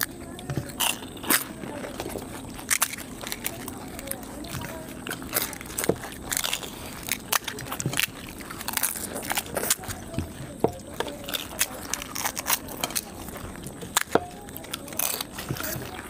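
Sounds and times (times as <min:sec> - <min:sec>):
chewing: 0:00.0 - 0:16.0
crisp shells cracking: 0:00.0 - 0:16.0.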